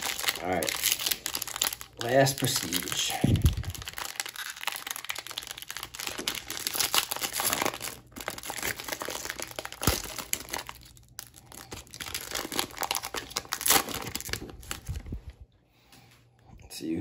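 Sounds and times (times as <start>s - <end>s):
plastic wrapper crinkling: 0.0s - 15.4s.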